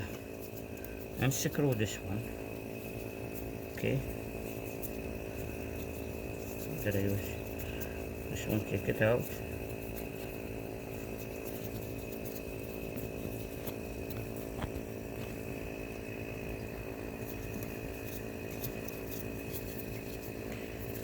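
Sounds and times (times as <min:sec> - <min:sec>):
motor hum with high whine: 0:00.0 - 0:21.0.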